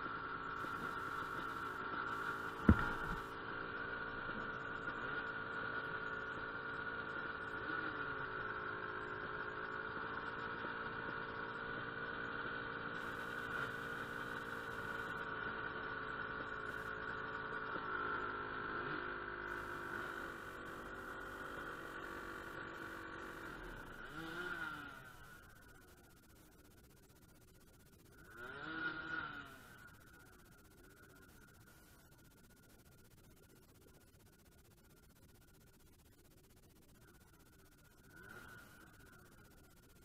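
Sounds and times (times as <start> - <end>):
dirt bike engine idling: 0.0 - 40.0.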